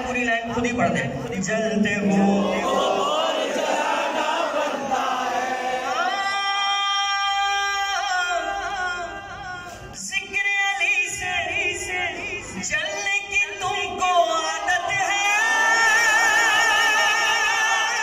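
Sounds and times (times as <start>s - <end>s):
men reciting together: 0.8s - 18.0s.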